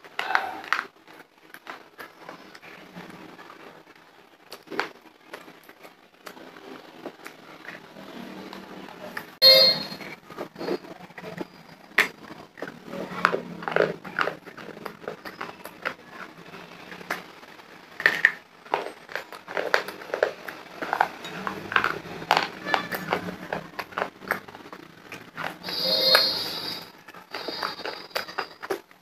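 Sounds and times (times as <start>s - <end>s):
crunching and chewing clay: 0.0s - 29.0s.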